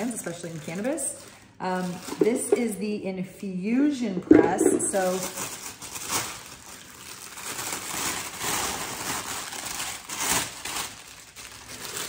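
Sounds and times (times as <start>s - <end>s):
packaging crinkling: 0.0s - 2.7s, 4.6s - 12.0s.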